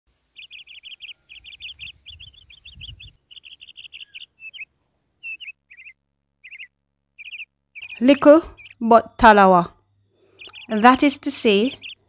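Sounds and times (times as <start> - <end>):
songbird chirping: 0.1 - 12.0.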